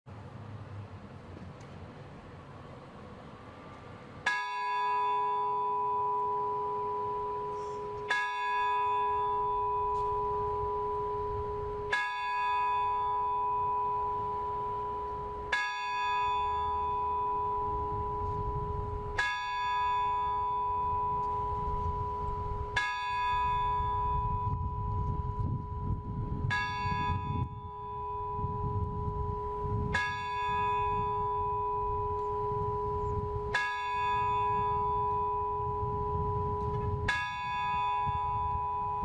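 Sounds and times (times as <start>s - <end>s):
large bell tolling: 4.2s - 39.0s.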